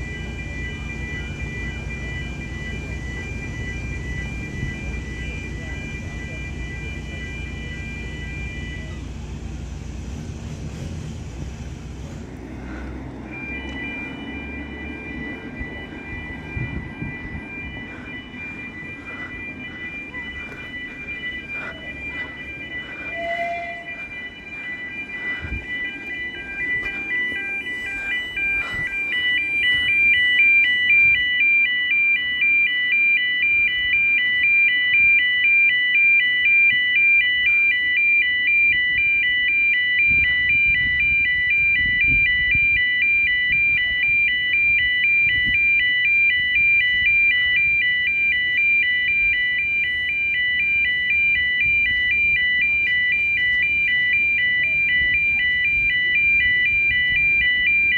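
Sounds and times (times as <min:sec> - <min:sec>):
two-tone warning alarm: 0:00.0 - 0:09.2, 0:12.3 - 0:57.9.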